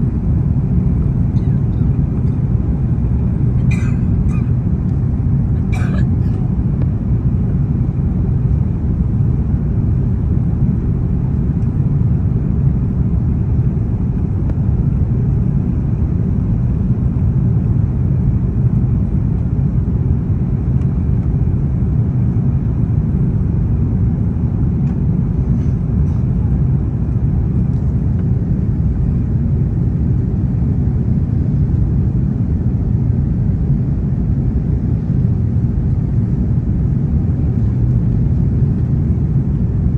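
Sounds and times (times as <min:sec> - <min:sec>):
airplane engine cabin rumble: 0:00.0 - 0:39.9.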